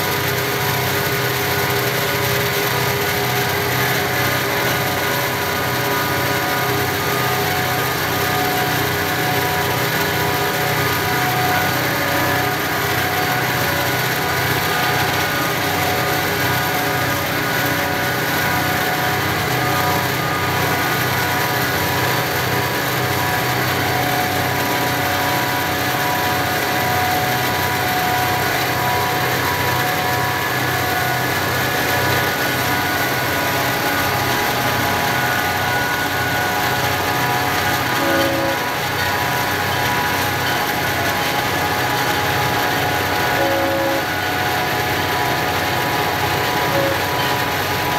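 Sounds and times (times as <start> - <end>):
diesel locomotive engine throbbing: 0.0 - 47.9.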